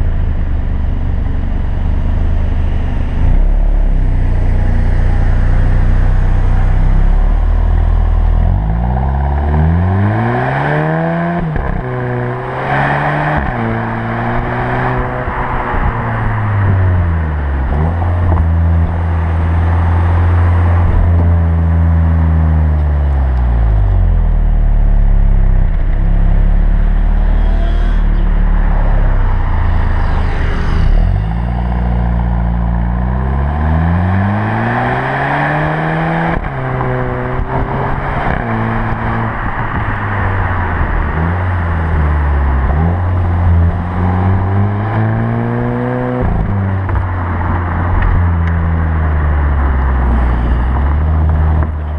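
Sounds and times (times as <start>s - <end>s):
car engine accelerating and upshifting: 0.0s - 51.9s
road and wind rush: 0.0s - 51.9s.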